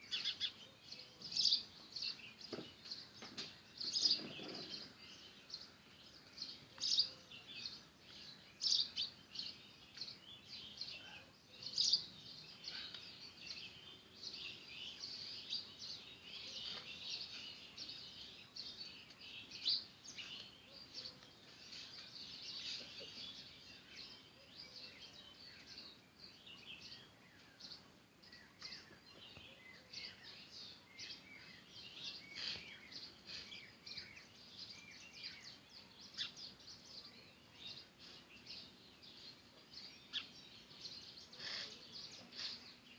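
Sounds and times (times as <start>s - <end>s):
sparrows chirping: 0.0s - 42.9s.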